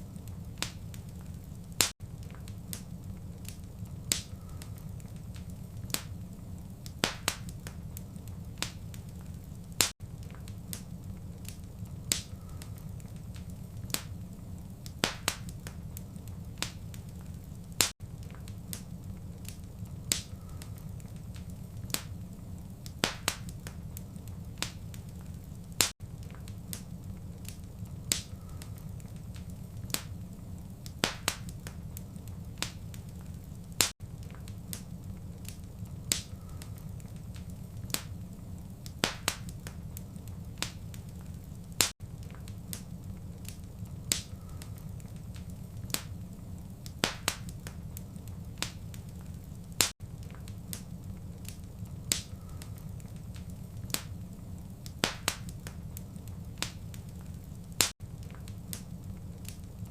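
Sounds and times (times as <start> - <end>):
fire pops and snaps: 0.0 - 59.9
wood fire crackling: 0.0 - 59.9.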